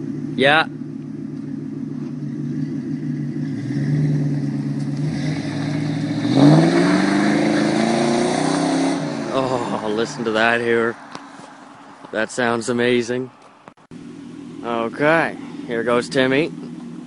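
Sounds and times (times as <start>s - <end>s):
car exhaust idling and revving: 0.0s - 17.0s.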